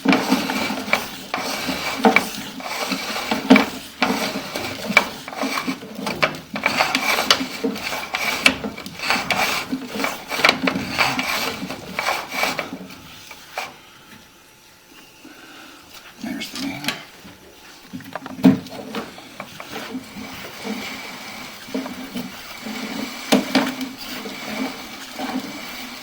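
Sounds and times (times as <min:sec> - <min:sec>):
cable scraping in pipe: 0:00.0 - 0:13.8, 0:17.6 - 0:26.0.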